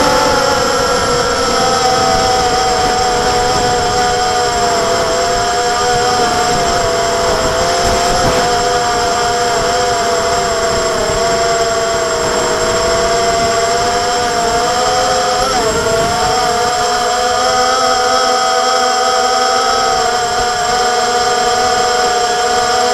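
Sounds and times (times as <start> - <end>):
drone motors and propellers whining: 0.0 - 22.9
low rumbling wind noise: 0.0 - 22.9.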